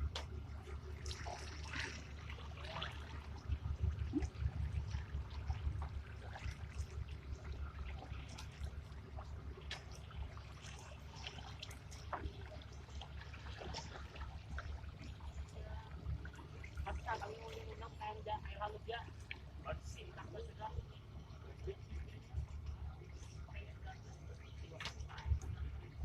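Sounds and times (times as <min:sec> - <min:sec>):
low steady rumble: 0:00.0 - 0:26.0
water trickling and splashing: 0:00.0 - 0:26.0.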